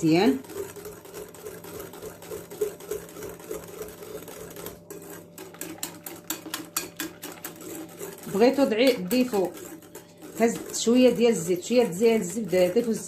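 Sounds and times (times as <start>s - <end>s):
whisk clicking against glass bowl: 0.0s - 13.0s.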